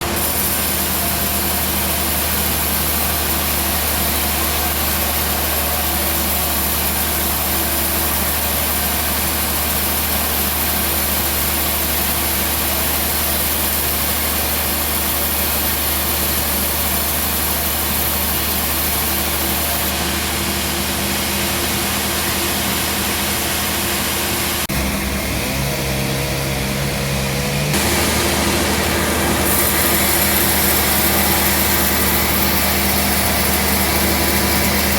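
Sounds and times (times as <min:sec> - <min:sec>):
sawmill engine running: 0:00.0 - 0:34.9.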